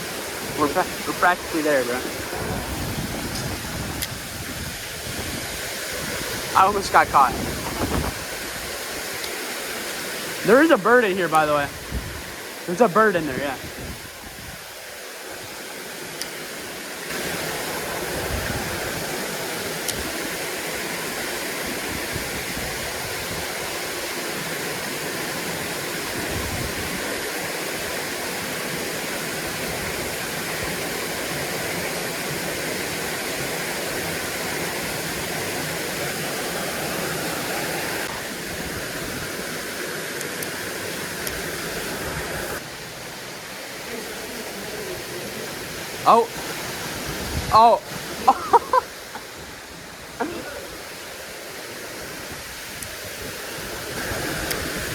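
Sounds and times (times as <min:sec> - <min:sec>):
water rushing over spillway: 0:00.0 - 0:54.9.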